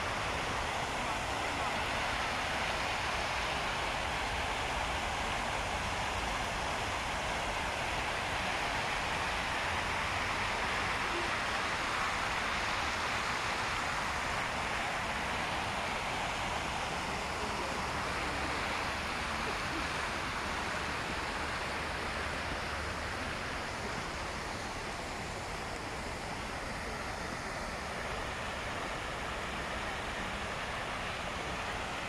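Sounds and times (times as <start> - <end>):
fountain water splashing: 0.0 - 32.0.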